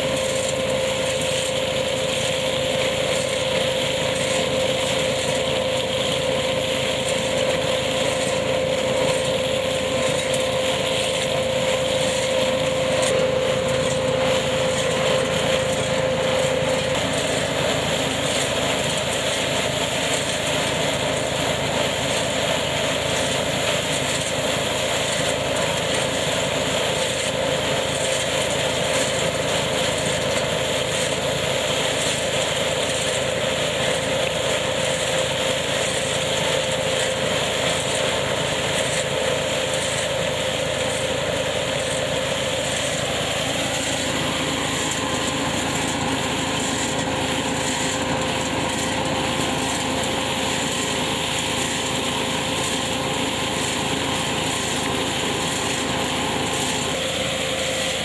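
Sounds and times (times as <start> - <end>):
harvesting machine running: 0.0 - 58.0
steady mechanical whine: 0.0 - 58.0.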